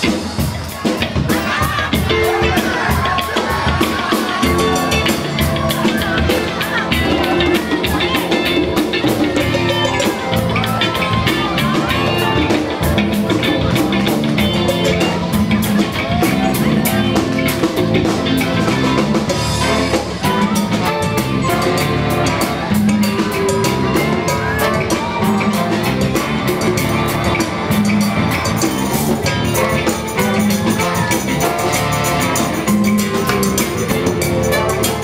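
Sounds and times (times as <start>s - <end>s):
congas: 0.0s - 35.0s
drum kit: 0.0s - 35.0s
guitar: 0.0s - 35.0s
horn section: 1.3s - 35.0s.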